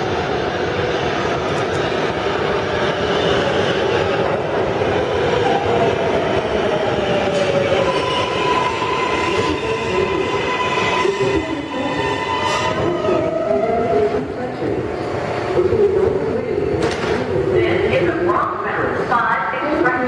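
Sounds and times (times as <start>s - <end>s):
train wheels rumbling on rail: 0.0s - 19.1s.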